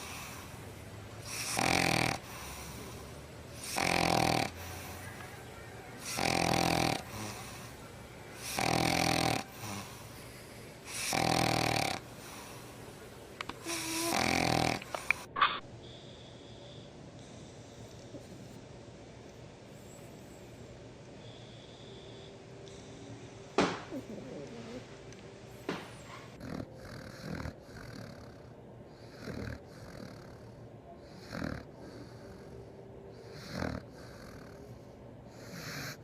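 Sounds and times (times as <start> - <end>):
puppy snoring: 0.0 - 18.6, 21.2 - 36.0.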